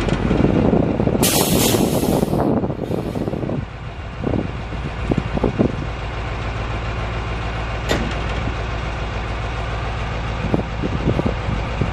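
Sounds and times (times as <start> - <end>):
diesel truck engine idling: 0.0 - 11.9.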